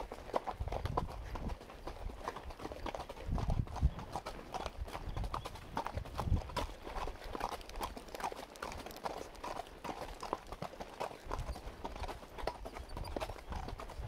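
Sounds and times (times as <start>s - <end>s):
horse hoofbeats on dirt trail: 0.0s - 14.0s.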